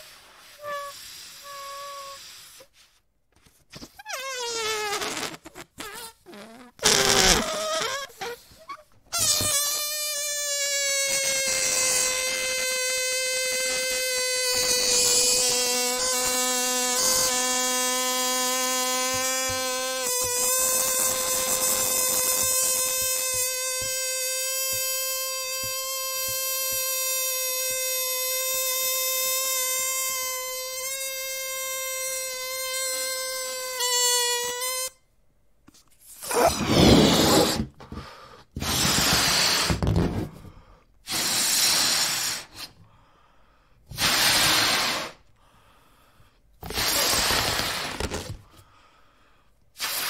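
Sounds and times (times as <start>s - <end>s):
balloon neck squealing: 0.0s - 2.8s, 3.5s - 35.1s, 36.0s - 42.8s, 43.9s - 45.2s, 46.6s - 48.5s, 49.8s - 50.0s
balloon air sputtering: 0.0s - 3.0s, 3.7s - 35.0s, 36.0s - 42.8s, 43.9s - 45.3s, 46.6s - 48.5s, 49.8s - 50.0s.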